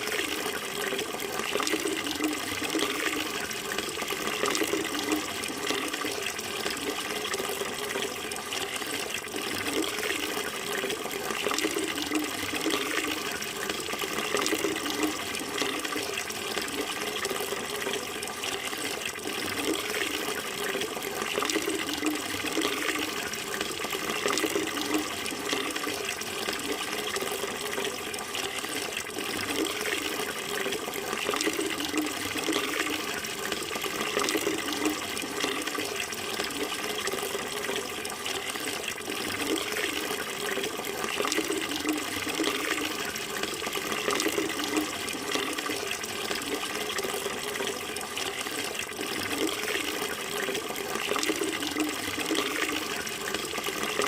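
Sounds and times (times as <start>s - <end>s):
running water splashing: 0.0s - 54.0s.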